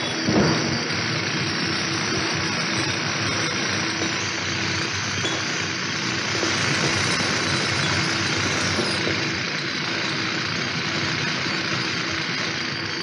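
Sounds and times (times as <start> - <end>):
quarry machinery running: 0.0 - 13.0.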